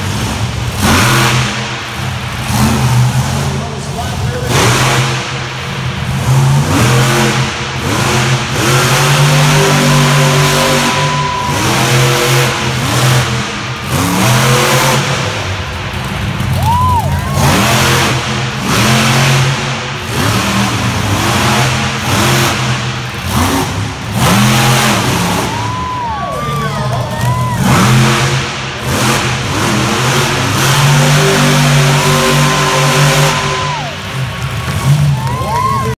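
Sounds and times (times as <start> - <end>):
monster truck engine revving: 0.0 - 35.9.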